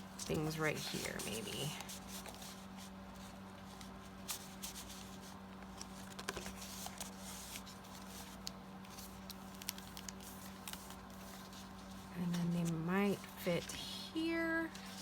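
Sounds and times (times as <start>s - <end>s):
steady low hum: 0.0s - 15.0s
paper rustling: 0.3s - 15.0s.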